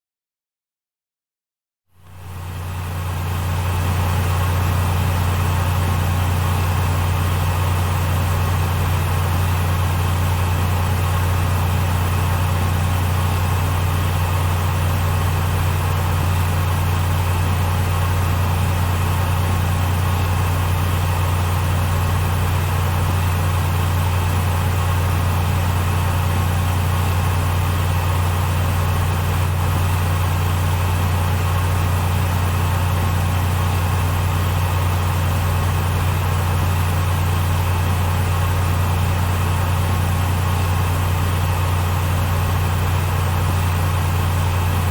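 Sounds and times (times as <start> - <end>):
computer cooling fans humming: 2.0 - 44.9.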